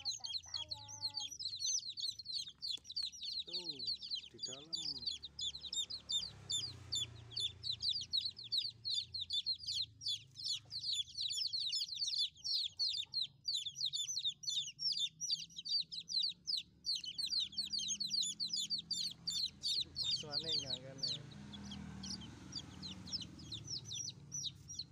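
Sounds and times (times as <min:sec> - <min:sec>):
baby chicks peeping: 0:00.0 - 0:24.9.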